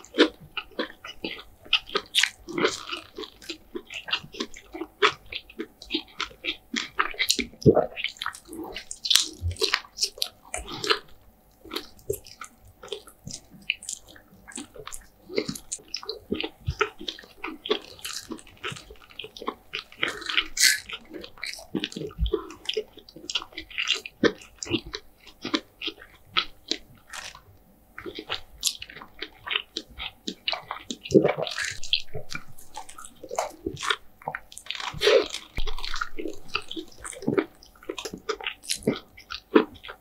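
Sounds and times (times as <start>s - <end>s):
chewing crispy fried food: 0.0s - 40.0s.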